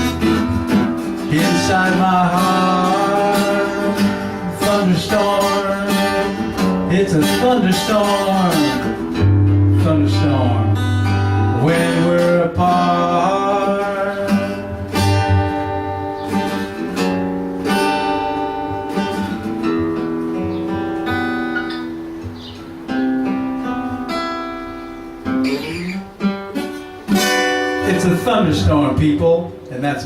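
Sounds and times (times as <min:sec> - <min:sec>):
guitars strumming chords: 0:00.0 - 0:30.0.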